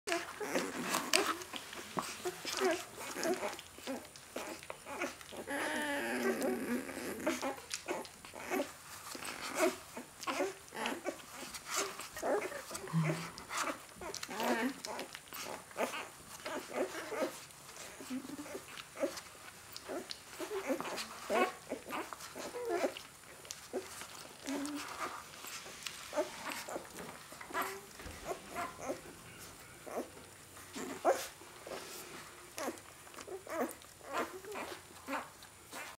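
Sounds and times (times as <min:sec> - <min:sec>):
puppies whimpering and squeaking: 0:00.1 - 0:35.9.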